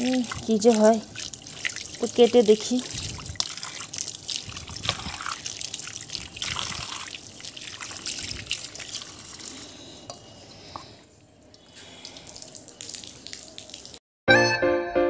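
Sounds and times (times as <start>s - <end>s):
water splashing and dripping: 0.0s - 10.1s, 10.8s - 14.0s.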